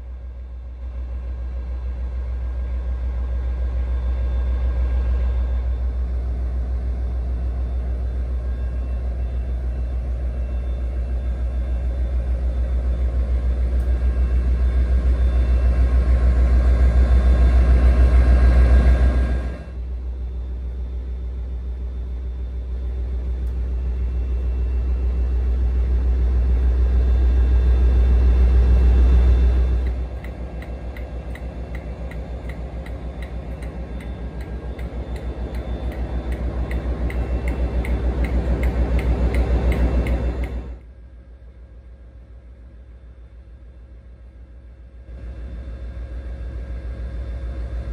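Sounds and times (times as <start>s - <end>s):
diesel locomotive engine idling: 0.0s - 47.9s.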